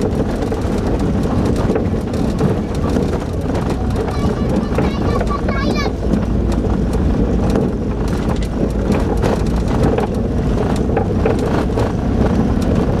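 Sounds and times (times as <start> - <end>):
clicks and rattles: 0.0 - 13.0
truck engine and road rumble: 0.0 - 13.0.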